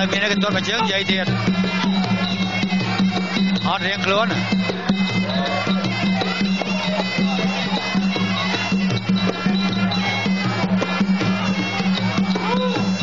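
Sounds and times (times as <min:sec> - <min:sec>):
reedy oboe melody: 0:00.0 - 0:13.0
steady drumbeats: 0:00.0 - 0:13.0.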